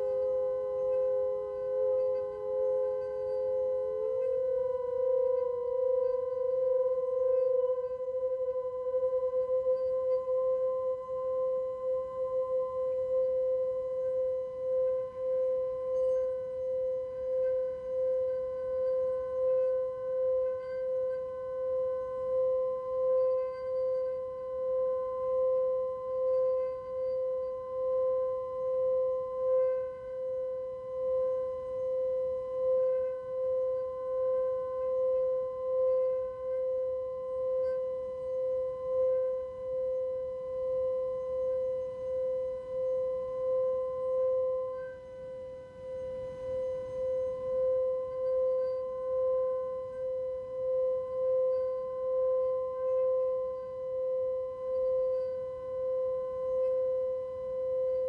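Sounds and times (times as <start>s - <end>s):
singing bowl sustained tone: 0.0s - 58.0s.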